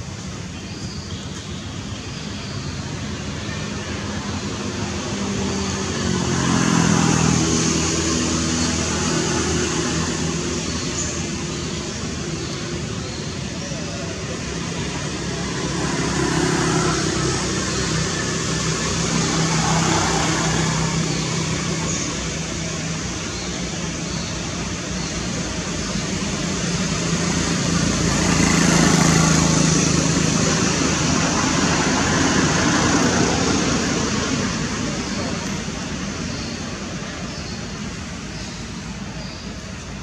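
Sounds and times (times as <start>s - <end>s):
engine hum: 0.0s - 40.0s
rushing road noise: 0.0s - 40.0s.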